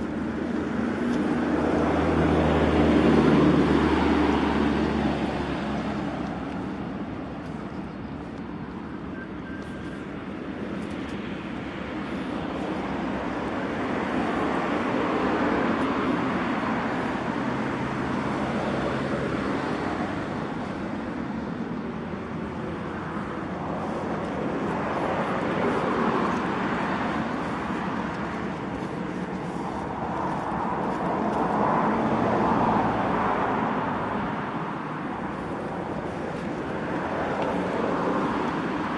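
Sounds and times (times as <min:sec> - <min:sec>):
passing road vehicles: 0:00.0 - 0:38.9.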